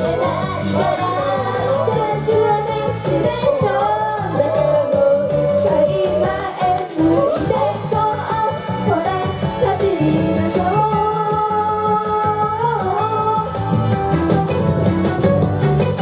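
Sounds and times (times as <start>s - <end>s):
young woman singing: 0.0s - 13.6s
pop backing track with beat: 0.0s - 16.0s.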